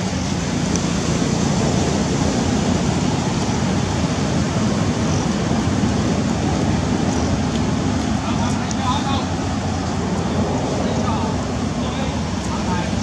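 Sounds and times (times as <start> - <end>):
loud steady rushing noise: 0.0 - 13.0.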